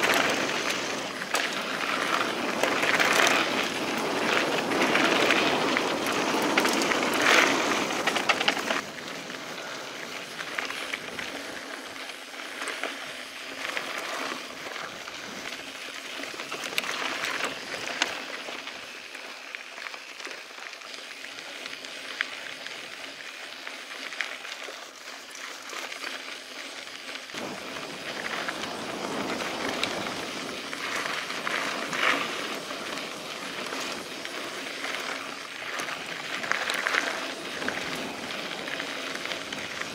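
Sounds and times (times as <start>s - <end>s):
bike rattling and clicking: 0.0s - 39.9s
bike tyres crunching on gravel: 0.0s - 39.9s.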